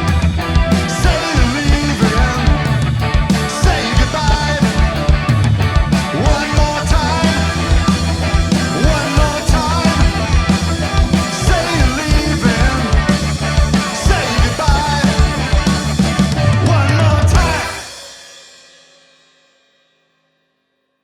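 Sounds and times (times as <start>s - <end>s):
rock band playing punk rock: 0.0s - 18.6s.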